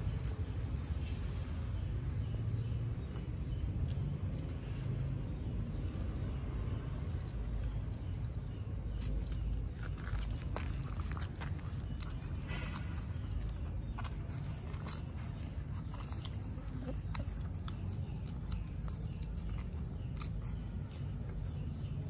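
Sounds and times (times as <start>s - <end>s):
low background rumble: 0.0s - 22.0s
puppies suckling wet smacking: 0.0s - 22.0s.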